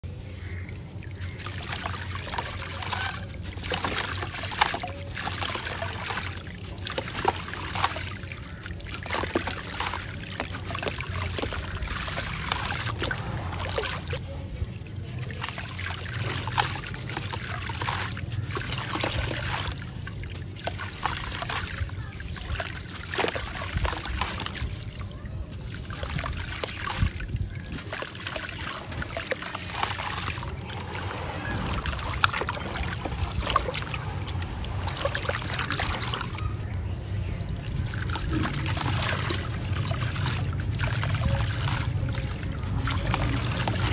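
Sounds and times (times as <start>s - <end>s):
steady low rumble: 0.0s - 26.4s, 27.0s - 43.9s.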